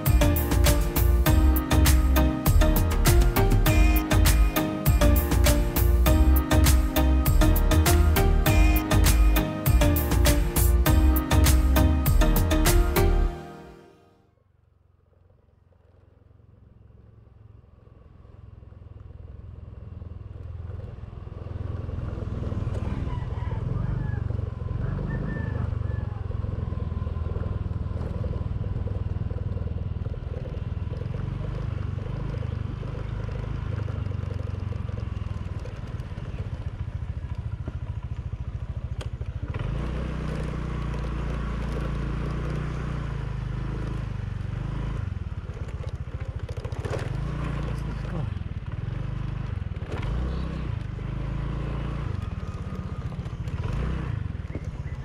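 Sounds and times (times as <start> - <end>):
vehicle rumbling: 0.0 - 13.8, 14.4 - 55.0.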